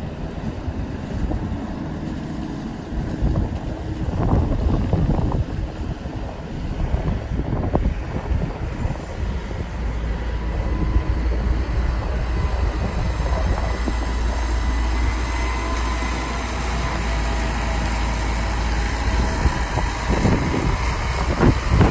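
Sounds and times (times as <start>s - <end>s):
pickup truck engine rumbling: 0.0s - 21.9s.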